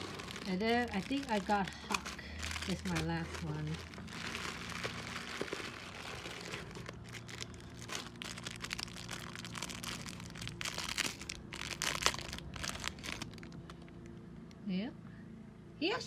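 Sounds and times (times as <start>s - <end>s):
plastic bags crinkling: 0.0s - 14.1s.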